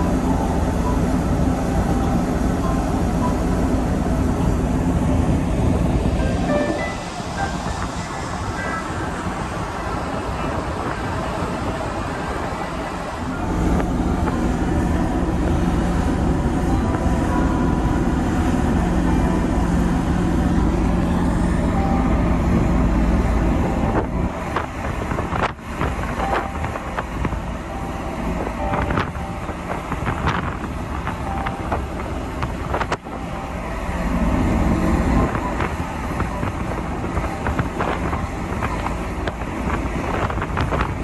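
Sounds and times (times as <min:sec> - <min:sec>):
engine rumble: 0:00.0 - 0:41.0
wind on microphone: 0:01.2 - 0:21.6, 0:22.2 - 0:33.3, 0:34.0 - 0:41.0.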